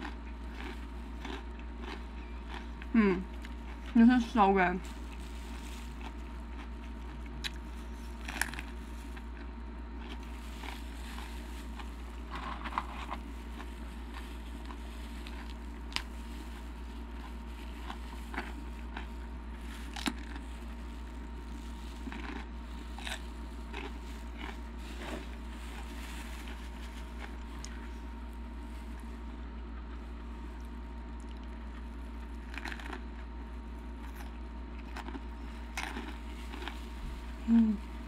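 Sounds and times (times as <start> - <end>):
crunching and chewing: 0.0 - 38.0
steady low hum: 0.0 - 38.0.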